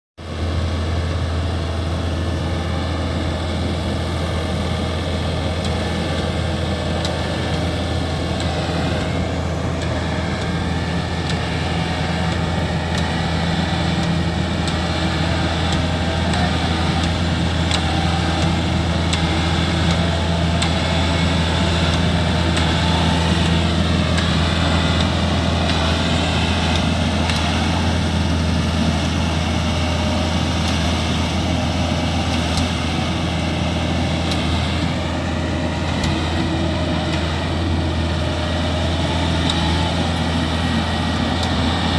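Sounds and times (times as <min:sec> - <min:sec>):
diesel farm machinery engine drone: 0:00.2 - 0:41.9.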